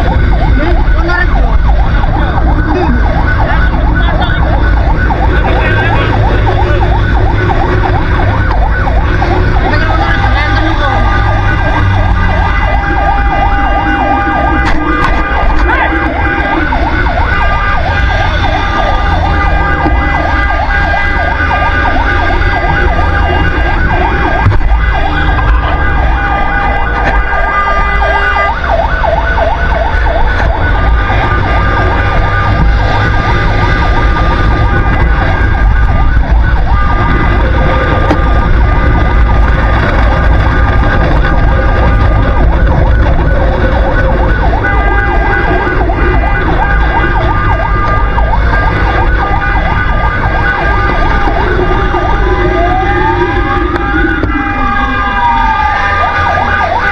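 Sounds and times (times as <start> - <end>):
fire truck siren: 0.0 - 56.9
truck rumble: 0.0 - 56.9.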